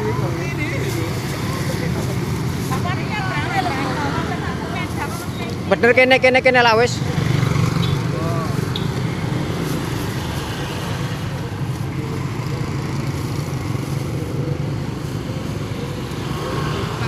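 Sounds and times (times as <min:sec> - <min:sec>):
scooter engines idling: 0:00.0 - 0:17.0.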